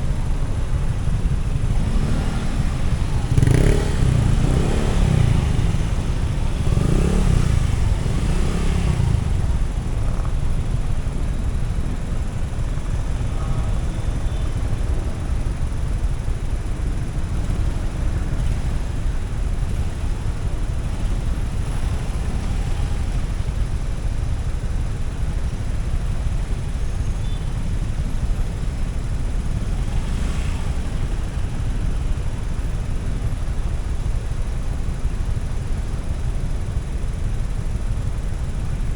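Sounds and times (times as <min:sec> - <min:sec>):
motorcycle engine: 0:00.0 - 0:34.2
wind and road noise: 0:00.0 - 0:38.9.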